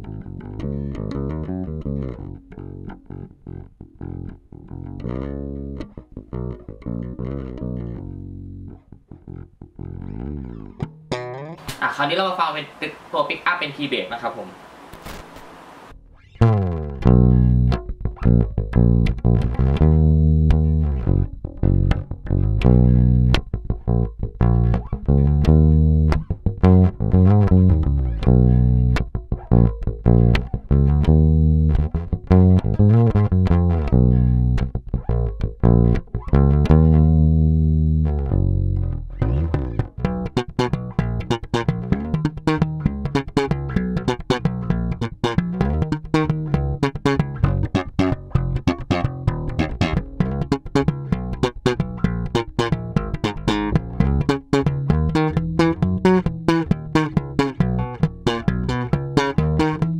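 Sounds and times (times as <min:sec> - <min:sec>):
electric bass played fingerstyle: 0:00.0 - 0:11.8, 0:16.0 - 0:59.9.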